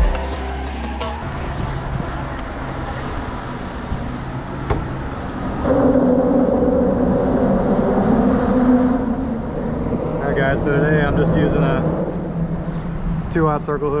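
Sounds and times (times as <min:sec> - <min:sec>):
engine drone: 0:00.0 - 0:14.0.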